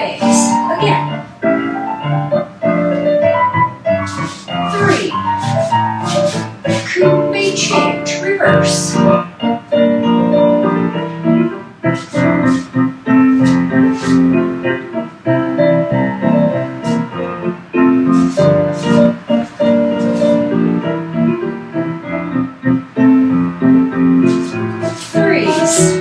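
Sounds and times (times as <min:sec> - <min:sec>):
solo piano music: 0:00.0 - 0:26.0.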